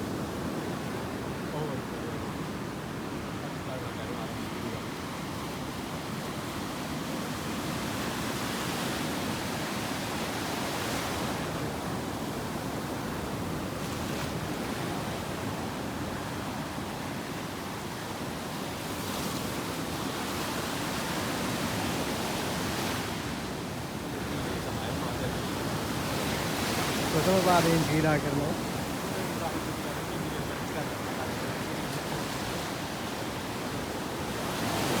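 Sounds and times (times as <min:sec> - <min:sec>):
ocean surf breaking: 0:00.0 - 0:35.0.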